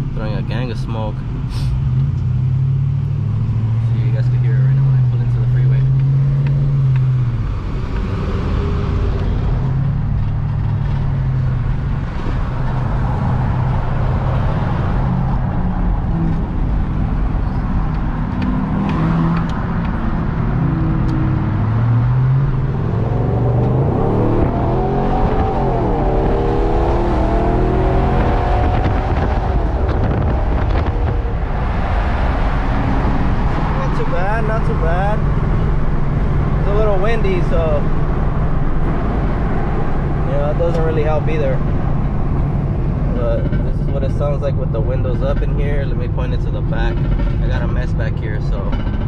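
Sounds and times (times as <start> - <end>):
road noise: 0.0 - 49.0
car engine exhaust revving: 1.5 - 49.0
wind noise: 5.0 - 49.0.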